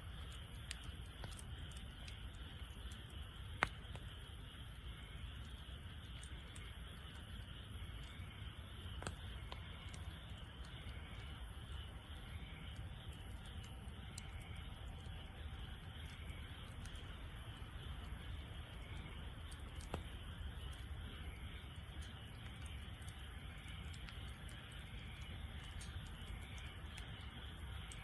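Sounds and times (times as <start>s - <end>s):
wood crackling and popping: 0.0s - 28.0s.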